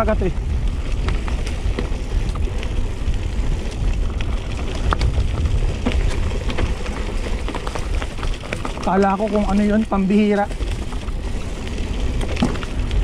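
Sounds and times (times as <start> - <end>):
bike clicks and rattles: 0.0 - 13.0
wind rumble on microphone: 0.0 - 13.0.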